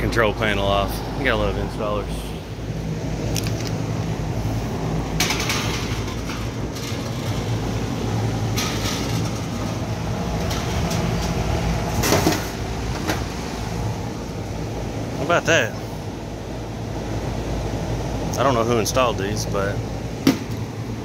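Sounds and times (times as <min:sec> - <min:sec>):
hvac units humming: 0:00.0 - 0:21.0.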